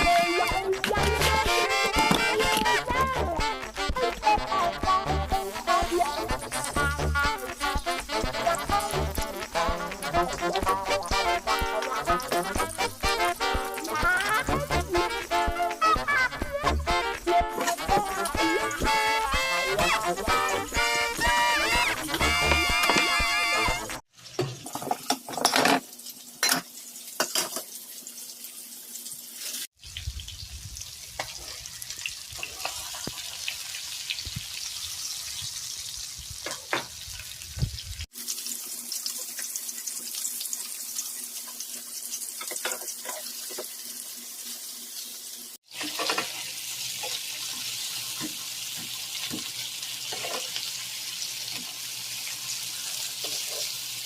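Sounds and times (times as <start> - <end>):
steady cooking hiss: 0.0 - 25.0, 25.8 - 54.0.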